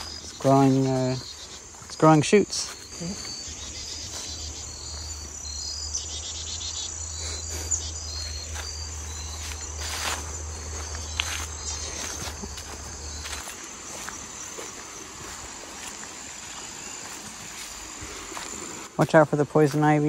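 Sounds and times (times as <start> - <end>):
brush rustling: 0.0 - 5.5, 7.2 - 20.0
footsteps on trail: 0.0 - 20.0
insects chirping and trilling: 0.0 - 20.0.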